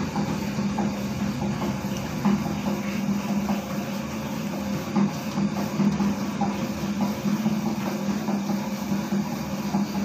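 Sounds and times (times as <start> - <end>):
mixer motor hum: 0.0 - 10.0.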